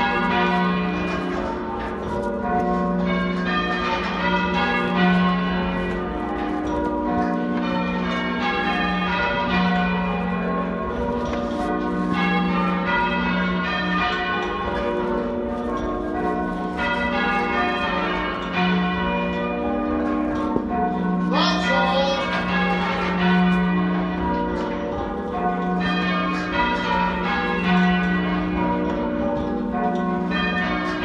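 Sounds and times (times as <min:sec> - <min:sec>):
church bells change ringing half-muffled: 0:00.0 - 0:31.0.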